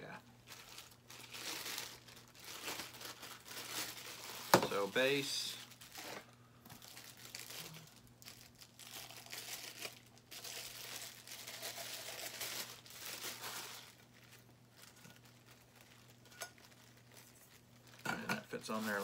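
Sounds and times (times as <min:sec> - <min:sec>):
plastic bag crinkling: 0:00.4 - 0:19.0.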